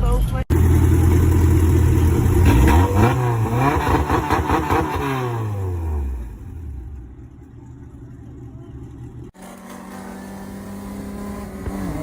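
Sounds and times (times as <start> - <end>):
car engine revving: 0.5 - 7.4, 8.8 - 12.0.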